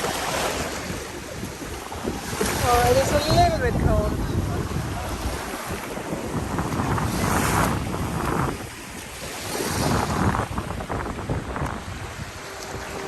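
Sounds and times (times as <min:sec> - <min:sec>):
sea waves washing ashore: 0:00.0 - 0:13.0
wind rumbling on microphone: 0:00.0 - 0:13.0.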